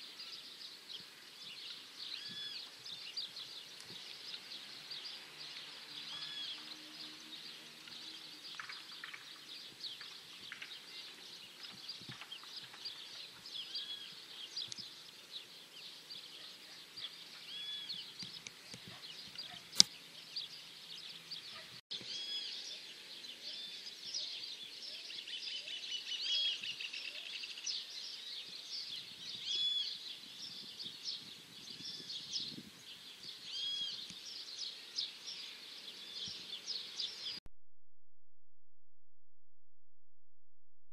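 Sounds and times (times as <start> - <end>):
small birds chirping: 0.0 - 37.4.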